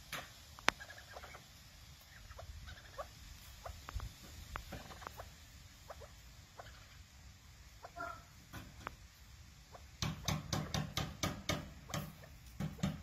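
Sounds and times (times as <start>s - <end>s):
partridges chirping and clucking: 0.1s - 13.0s.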